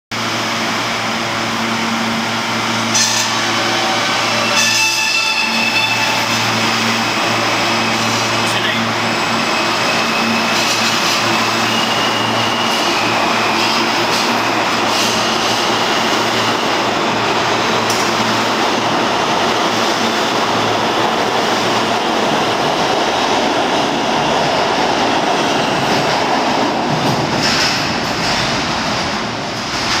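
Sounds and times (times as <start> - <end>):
subway train wheels rumbling on rail: 0.1 - 30.0.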